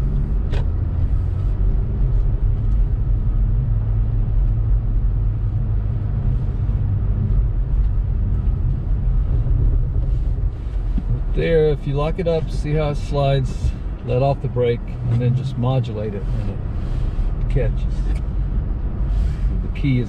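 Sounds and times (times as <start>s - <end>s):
car engine and tyres rumble: 0.0s - 20.0s.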